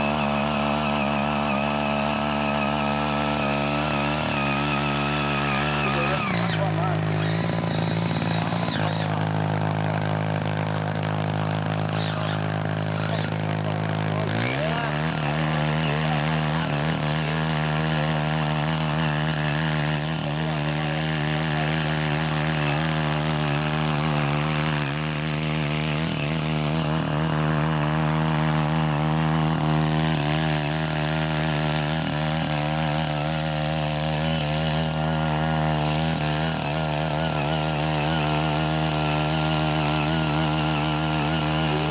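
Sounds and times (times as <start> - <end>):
garden tiller engine running: 0.0 - 41.9.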